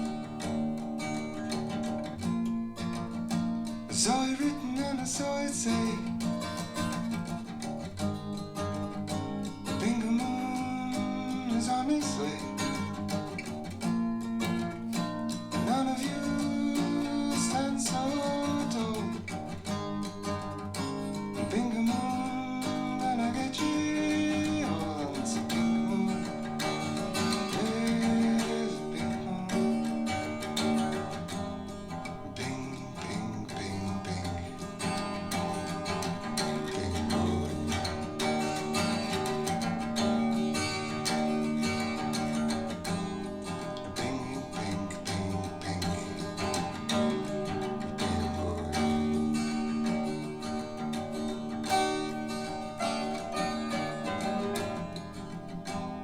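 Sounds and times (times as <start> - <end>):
acoustic guitar song over loudspeakers: 0.0 - 56.0.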